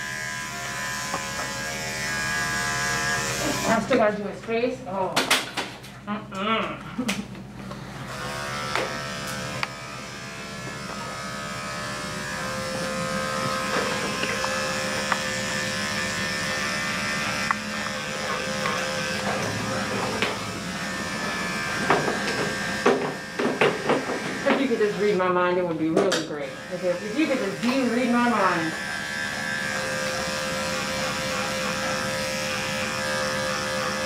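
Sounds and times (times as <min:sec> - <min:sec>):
electric clippers shaving fur: 0:00.0 - 0:05.4, 0:06.2 - 0:34.0.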